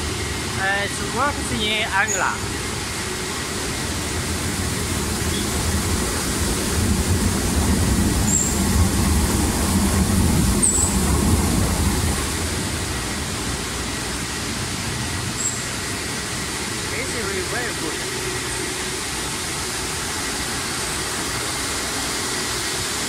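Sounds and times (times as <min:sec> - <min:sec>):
machine rumbling: 0:00.0 - 0:23.0
water spraying: 0:00.4 - 0:23.0.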